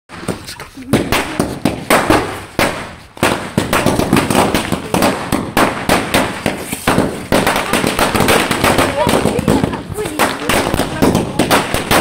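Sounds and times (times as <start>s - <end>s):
firecrackers banging: 0.1s - 12.0s.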